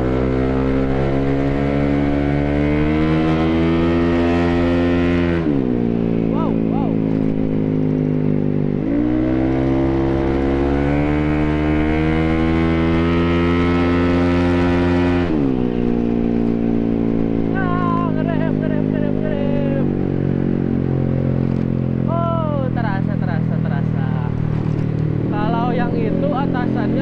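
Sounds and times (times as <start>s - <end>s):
scooter engine revving: 0.0s - 27.0s.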